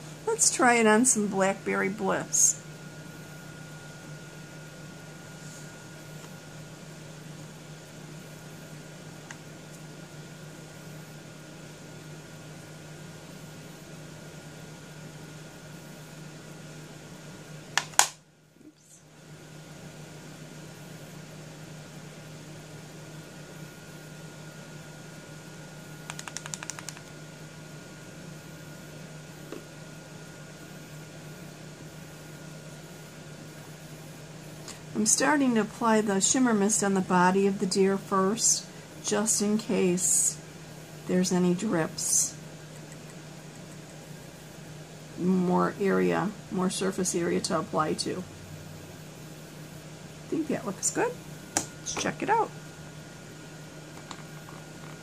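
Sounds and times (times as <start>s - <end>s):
electrical hum and hiss: 0.0s - 55.0s.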